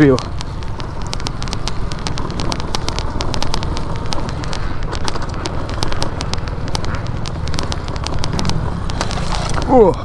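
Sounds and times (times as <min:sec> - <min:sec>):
motorcycle engine rumble: 0:00.0 - 0:10.0
sharp clicks and crackles: 0:00.0 - 0:10.0
wind on microphone: 0:00.0 - 0:10.0.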